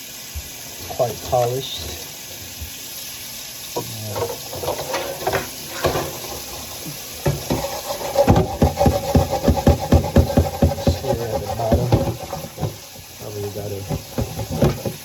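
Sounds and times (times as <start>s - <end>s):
tap water running into sink: 0.0s - 15.0s
dishes being washed: 0.3s - 15.0s.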